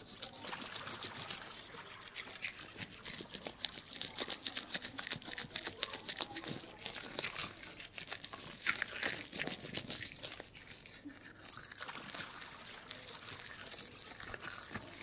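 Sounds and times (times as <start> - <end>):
shampoo foam crackling: 0.0 - 15.0.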